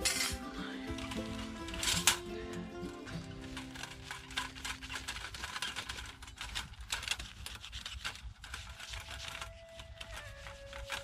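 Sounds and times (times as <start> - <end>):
moss scrubbing metal panels: 0.0 - 11.0.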